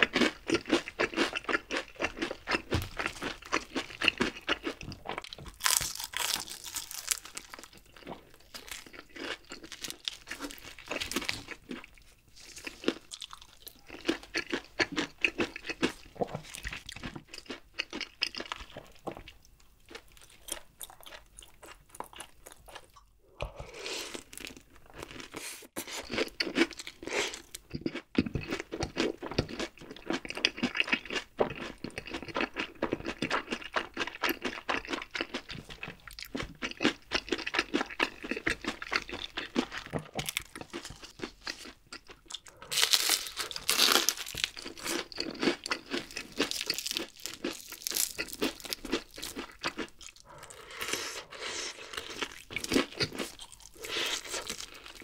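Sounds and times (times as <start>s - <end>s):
chewing crunchy fried chicken: 0.0s - 55.0s.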